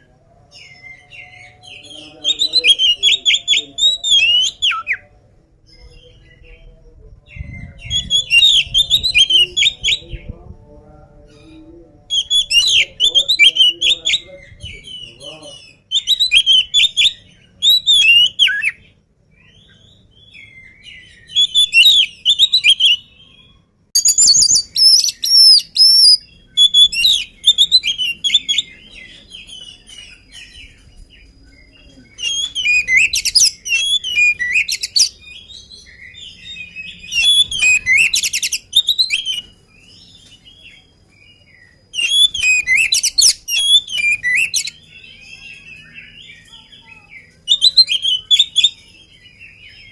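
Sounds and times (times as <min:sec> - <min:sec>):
bird singing whistled notes: 0:00.0 - 0:10.4, 0:11.3 - 0:49.9.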